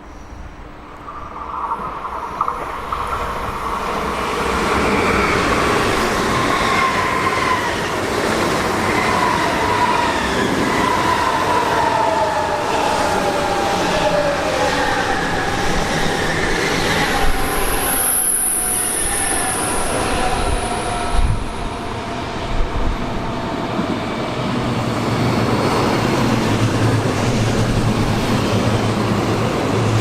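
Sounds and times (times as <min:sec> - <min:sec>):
high-pitched train squeal: 0:00.0 - 0:24.3
train running past: 0:00.0 - 0:30.0.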